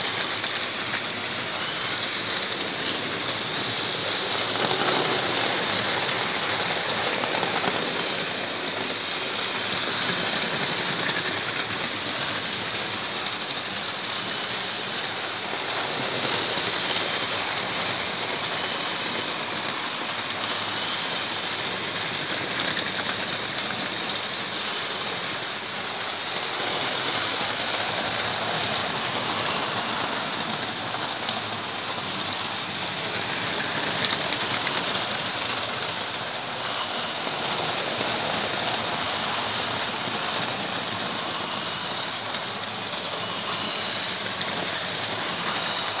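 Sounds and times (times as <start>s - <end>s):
model trains running: 0.0s - 46.0s.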